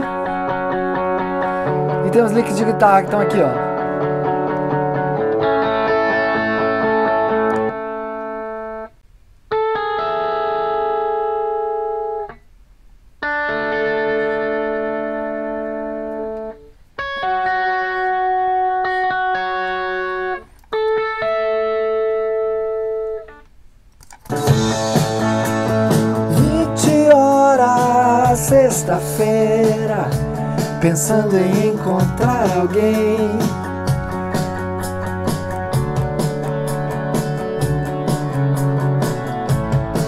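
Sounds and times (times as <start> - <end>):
sustained lead guitar notes: 0.0 - 12.4, 13.2 - 23.5, 24.3 - 40.0.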